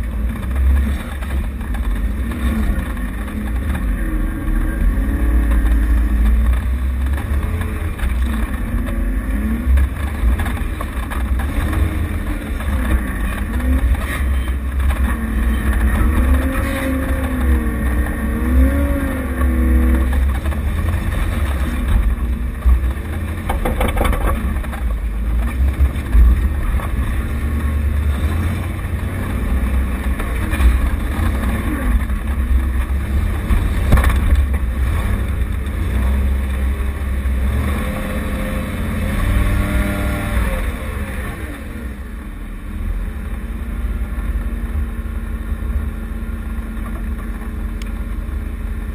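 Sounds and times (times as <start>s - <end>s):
off-road vehicle engine rumbling: 0.0s - 48.9s.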